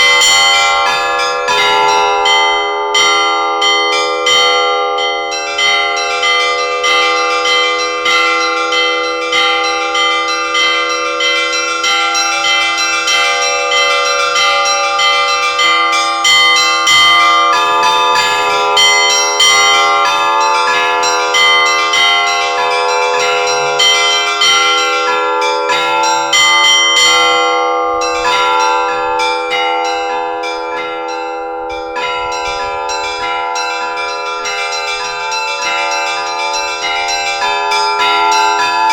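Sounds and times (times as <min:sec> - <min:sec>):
large bell humming: 0:00.0 - 0:38.9
small church bells ringing rapidly: 0:00.0 - 0:38.9.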